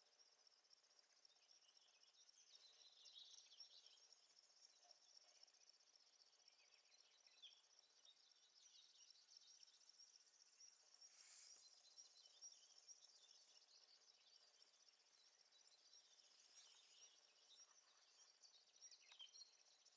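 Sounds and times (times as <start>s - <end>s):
faint chirps: 0.0s - 19.9s
high-pitched insect trill: 0.0s - 19.9s.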